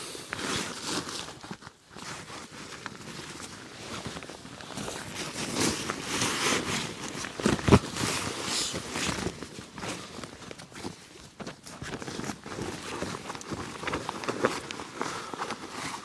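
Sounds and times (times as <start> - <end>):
gear rustling in a bag: 0.3 - 16.0.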